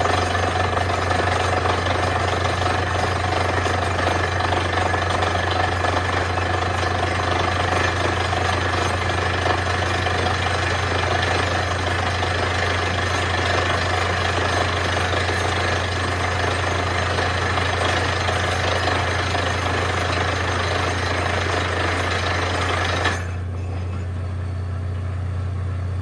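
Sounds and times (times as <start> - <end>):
drilling machine drilling: 0.0 - 24.2.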